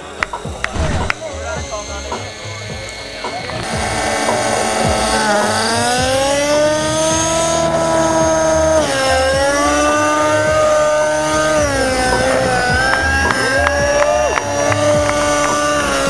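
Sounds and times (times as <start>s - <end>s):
model helicopter engine and rotor whine: 0.0s - 16.0s.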